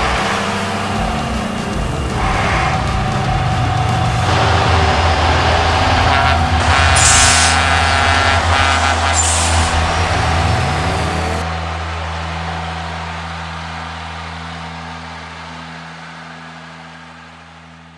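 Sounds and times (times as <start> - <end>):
truck engine drone: 0.0 - 17.9.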